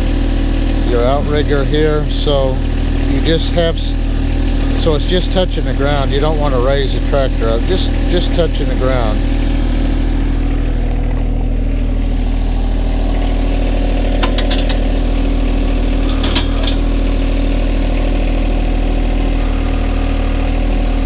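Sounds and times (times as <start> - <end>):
diesel tractor idling: 0.0 - 21.0.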